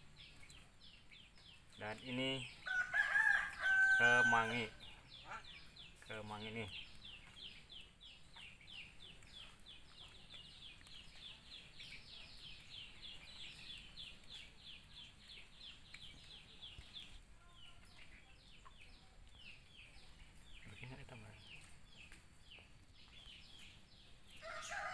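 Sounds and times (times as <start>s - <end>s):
bird chirping: 0.0s - 24.9s.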